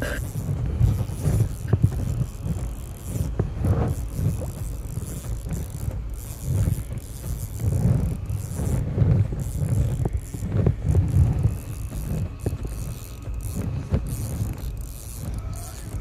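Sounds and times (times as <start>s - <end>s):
fishing reel clicking: 0.0s - 16.0s
wind rumble on microphone: 0.0s - 16.0s.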